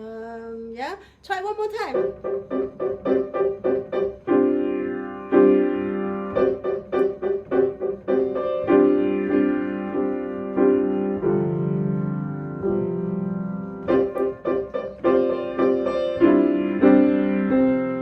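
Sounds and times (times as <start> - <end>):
piano chords: 1.7 - 18.0.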